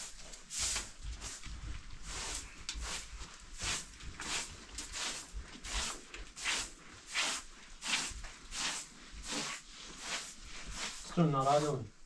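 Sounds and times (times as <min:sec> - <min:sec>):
hand broom sweeping floor: 0:00.0 - 0:12.0.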